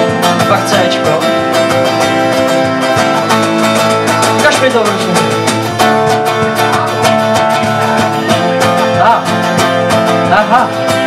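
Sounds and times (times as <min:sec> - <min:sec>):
guitars strumming chords: 0:00.0 - 0:11.0
steady drum beat: 0:00.0 - 0:11.0.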